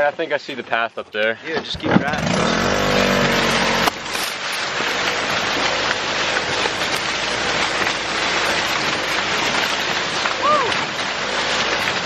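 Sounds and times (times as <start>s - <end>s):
corn stalks rustling: 0.0s - 12.0s.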